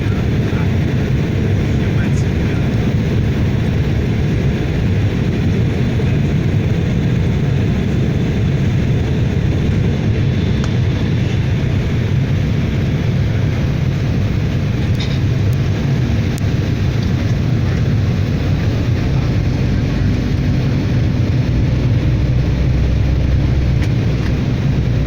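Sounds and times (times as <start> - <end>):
aircraft cabin drone: 0.0 - 25.0.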